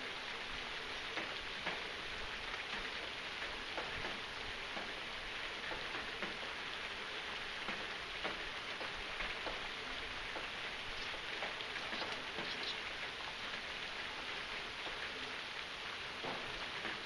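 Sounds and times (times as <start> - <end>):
raindrops ticking: 0.0 - 17.0
steady rain hissing: 0.0 - 17.0.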